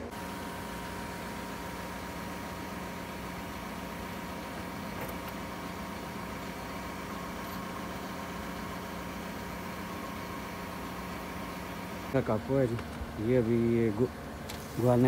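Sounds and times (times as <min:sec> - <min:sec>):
engine idling hum: 0:00.0 - 0:15.0.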